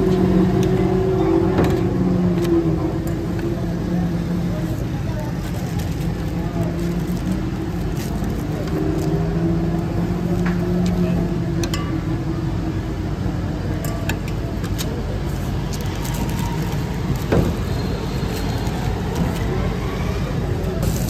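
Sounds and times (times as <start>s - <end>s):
traffic and engine rumble: 0.0s - 21.0s.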